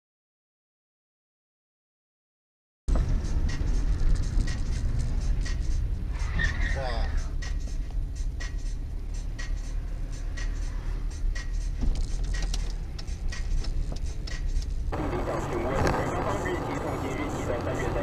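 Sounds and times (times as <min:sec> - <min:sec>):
engine and road rumble: 0:02.9 - 0:18.0.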